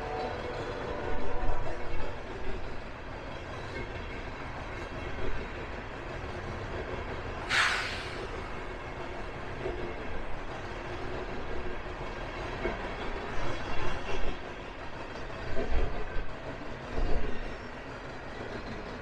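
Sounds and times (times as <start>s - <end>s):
train cars rumbling past: 0.0s - 19.0s.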